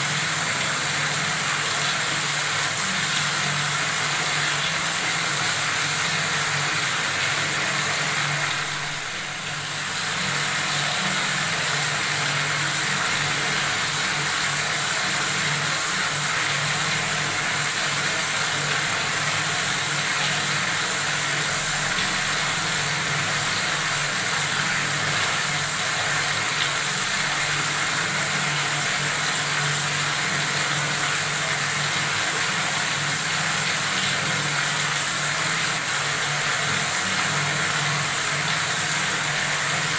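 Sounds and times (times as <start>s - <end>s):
water running from faucet: 0.0s - 39.9s.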